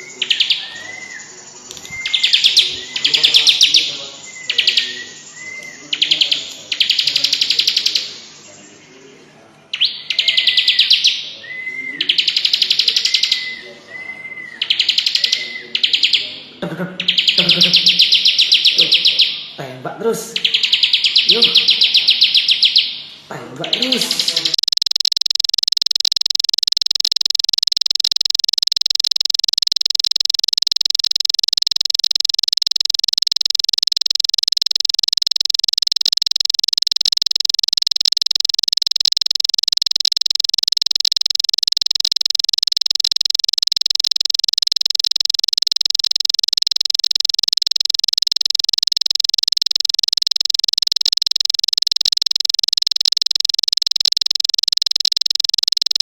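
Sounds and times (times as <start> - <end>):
bird high-pitched fast trill: 0.0 - 8.9, 9.7 - 13.8, 14.5 - 16.4, 17.0 - 19.6, 20.4 - 23.1, 23.7 - 56.0.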